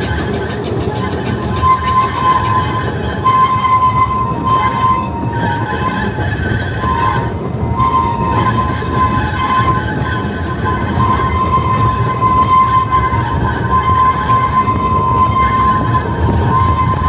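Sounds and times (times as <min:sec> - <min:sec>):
high-pitched wheel squeal: 0:00.0 - 0:17.0
train rumbling: 0:00.0 - 0:17.0.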